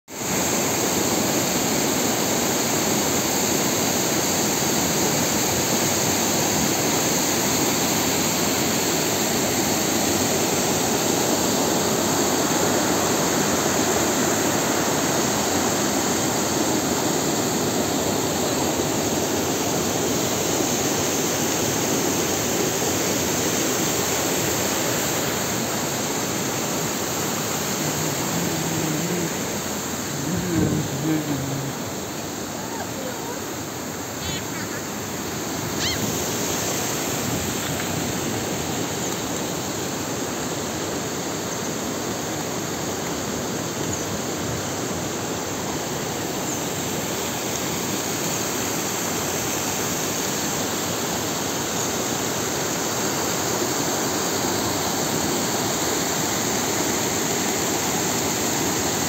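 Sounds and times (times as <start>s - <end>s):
waterfall rushing over rocks: 0.1s - 59.0s.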